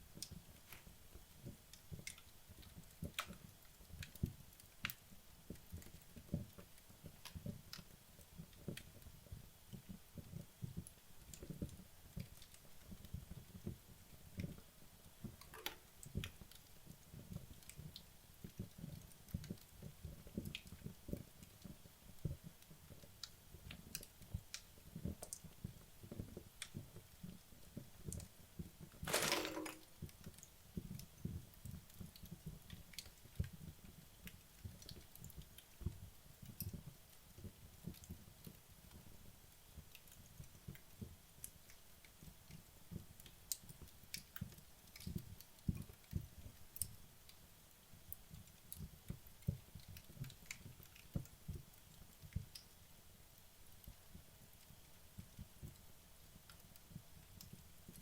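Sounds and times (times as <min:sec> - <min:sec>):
logs crackling in fireplace: 0:00.0 - 0:58.0.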